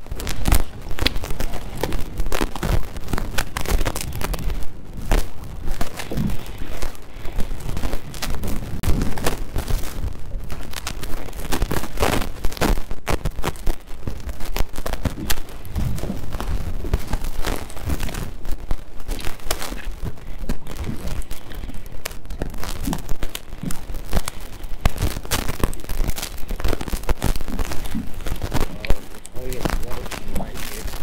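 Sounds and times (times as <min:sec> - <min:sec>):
dense irregular crackles: 0:00.0 - 0:31.0.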